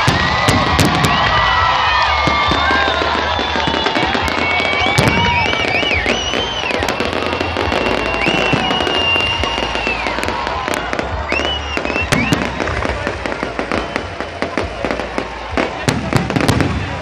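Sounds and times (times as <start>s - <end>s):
firework whistles: 0.0s - 16.9s
fireworks bangs and crackles: 0.0s - 17.0s.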